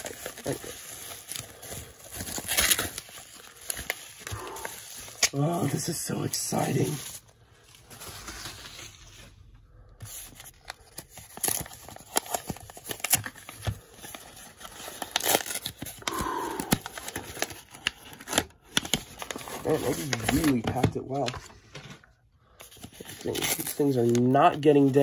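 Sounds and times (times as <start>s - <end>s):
paper crinkling and tearing: 0.0s - 21.4s, 22.4s - 25.0s.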